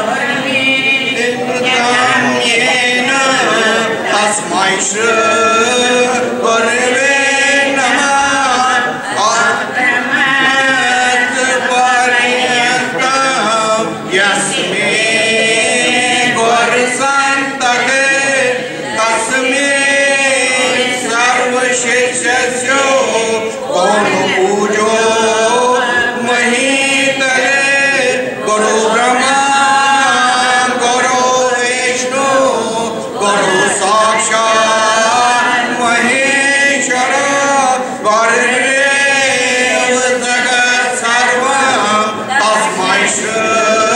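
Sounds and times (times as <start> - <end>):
group singing a devotional hymn: 0.0 - 43.9.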